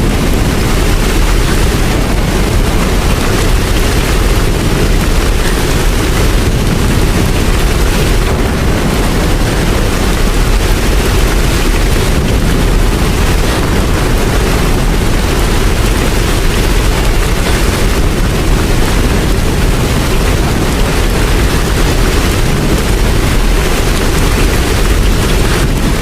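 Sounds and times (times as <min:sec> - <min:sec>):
deep rumble: 0:00.0 - 0:26.0
heavy rain rushing: 0:00.0 - 0:26.0.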